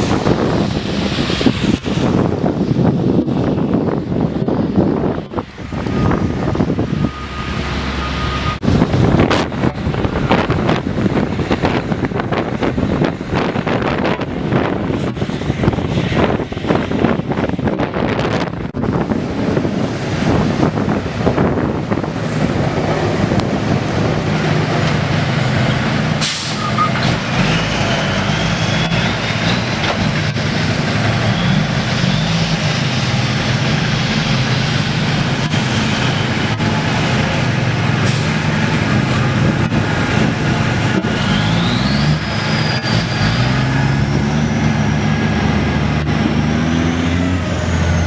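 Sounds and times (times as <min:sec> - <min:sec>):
large vehicle engine running: 0:00.0 - 0:48.0.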